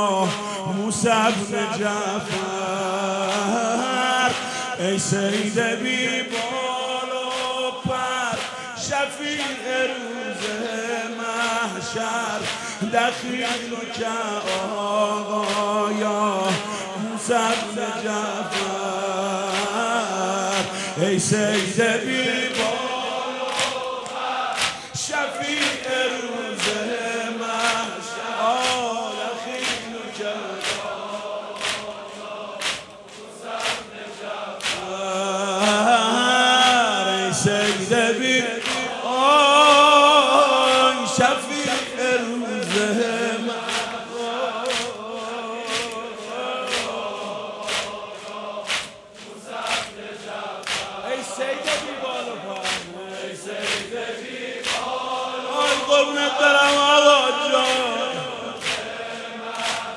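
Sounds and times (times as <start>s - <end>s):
crowd of men chanting: 0.0s - 59.9s
rhythmic chest slaps: 0.0s - 59.9s.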